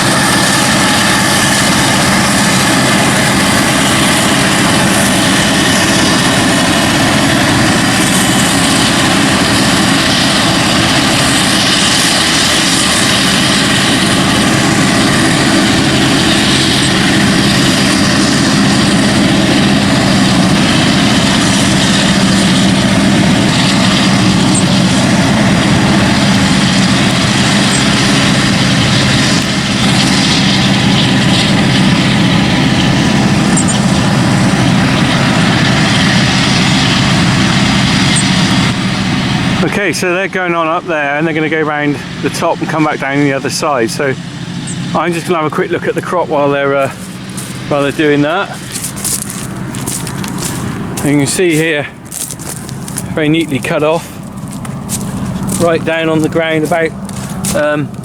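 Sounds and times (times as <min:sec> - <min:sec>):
heavy engine drone: 0:00.0 - 0:58.0.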